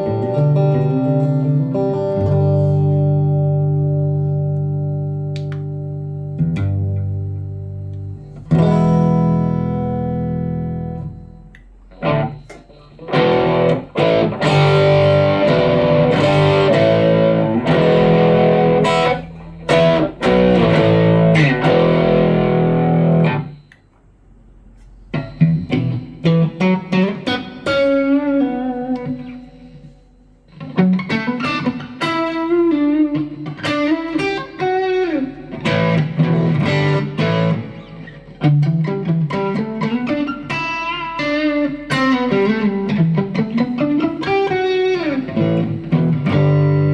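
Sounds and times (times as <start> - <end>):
electric guitar single-note lines: 0.0 - 24.0, 24.8 - 46.9
distorted electric guitar chords: 0.0 - 46.9.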